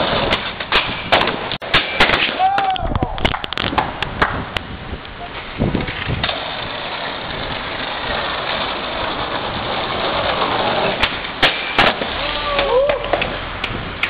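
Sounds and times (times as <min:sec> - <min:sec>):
skateboard clacks: 0:00.0 - 0:04.6, 0:05.8 - 0:14.0
skateboard wheels rolling on pavement: 0:00.0 - 0:14.0.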